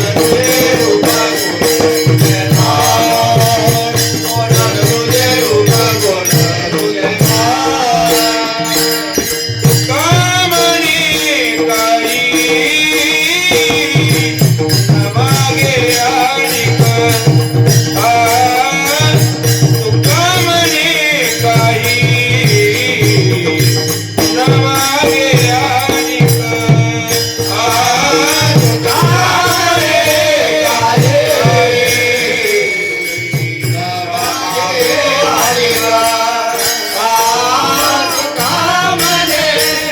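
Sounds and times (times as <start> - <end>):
jingling percussion: 0.0 - 39.9
man singing devotional melody: 0.0 - 39.9.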